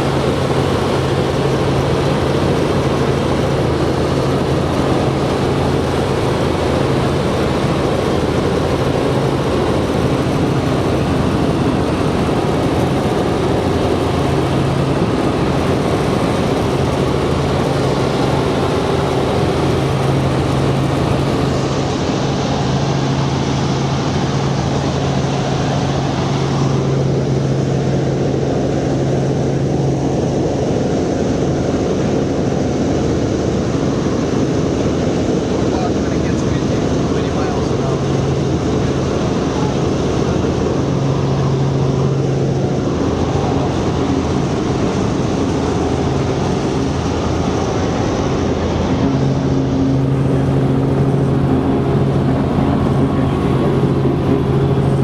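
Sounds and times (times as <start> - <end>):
helicopter turbine and rotor: 0.0 - 55.0.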